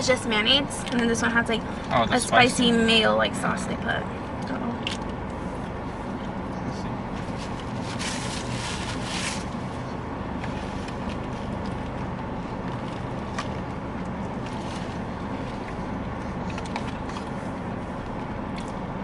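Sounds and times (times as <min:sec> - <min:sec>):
car cabin hum: 0:00.0 - 0:19.0.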